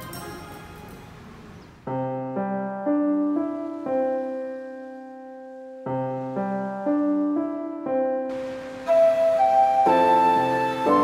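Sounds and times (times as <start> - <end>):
gentle piano-like keyboard phrase: 0.0 - 11.0.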